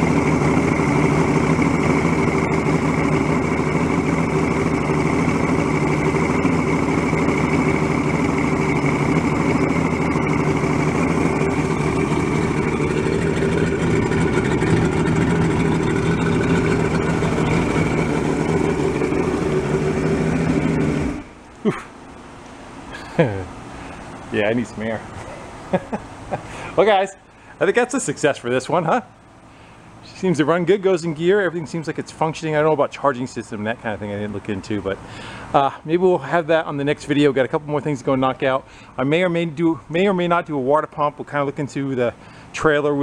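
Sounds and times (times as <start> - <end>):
outboard motor idling: 0.0 - 22.2, 22.9 - 43.0.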